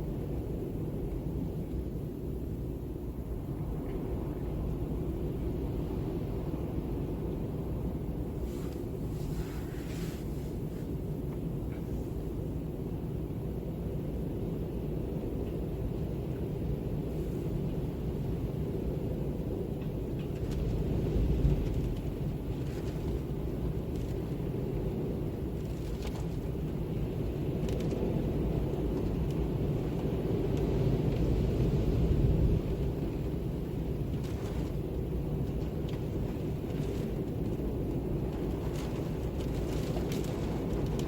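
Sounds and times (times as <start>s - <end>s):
wind rumbling rush: 3.1s - 41.0s.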